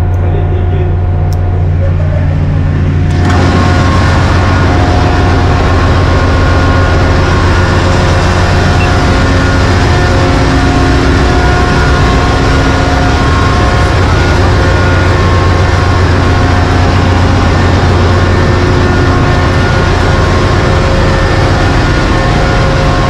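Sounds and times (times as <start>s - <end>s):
engine room machinery rumble: 0.0s - 23.0s
steady machinery humming tones: 0.0s - 23.0s.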